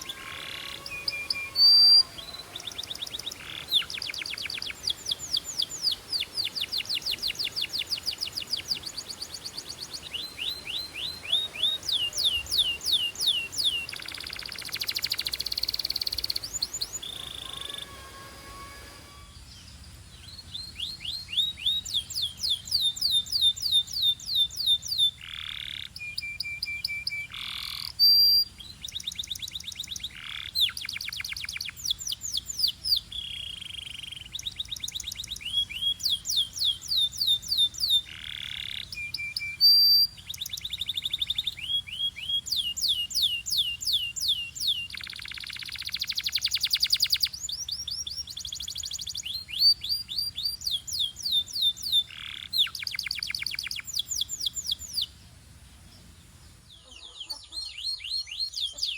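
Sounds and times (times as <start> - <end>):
canary singing: 0.0 - 55.2.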